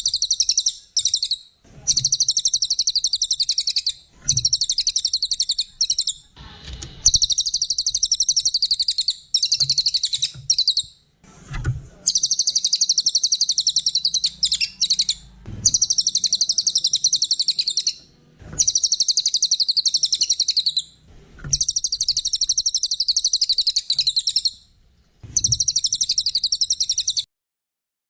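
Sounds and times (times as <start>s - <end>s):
songbird chattering trill: 0.0s - 6.3s, 7.1s - 10.9s, 12.1s - 18.0s, 18.6s - 20.9s, 21.5s - 24.6s, 25.4s - 27.3s.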